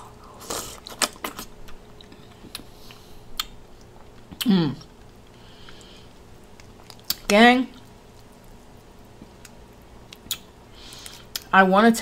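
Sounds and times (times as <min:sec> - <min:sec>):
chewing with crunching clicks: 0:00.2 - 0:11.5.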